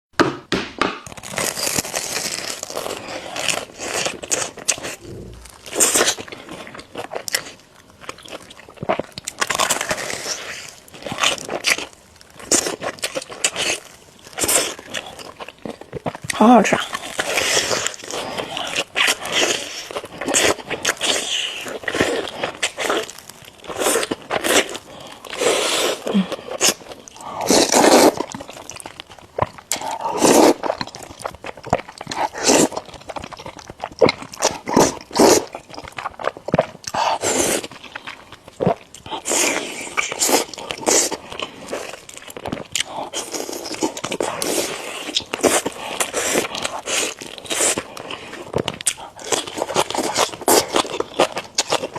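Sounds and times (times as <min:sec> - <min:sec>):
crunchy chewing: 0:01.1 - 0:51.9.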